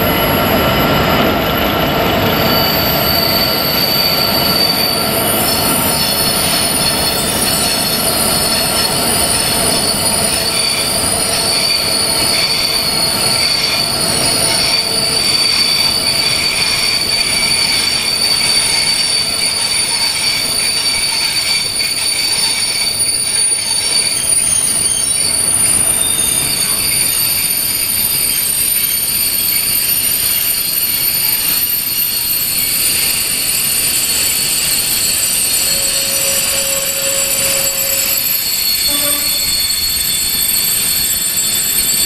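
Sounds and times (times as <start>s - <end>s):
train wheels squealing on rails: 0.0s - 42.0s.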